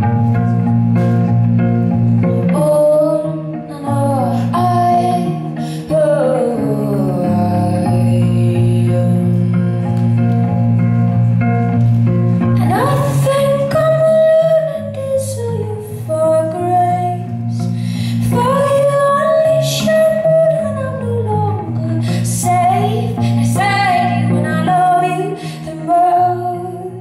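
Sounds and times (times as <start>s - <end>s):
plucked guitar: 0.0s - 27.0s
woman singing: 2.3s - 10.7s, 12.6s - 27.0s.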